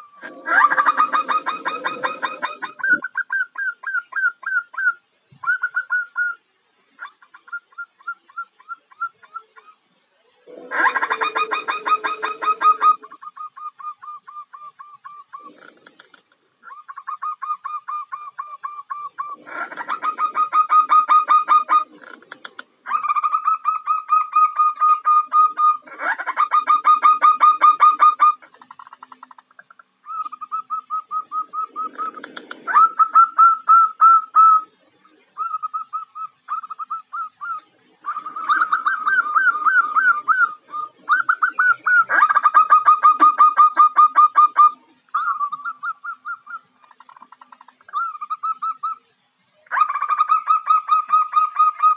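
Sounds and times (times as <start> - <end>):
dove calling: 0.0 - 51.9.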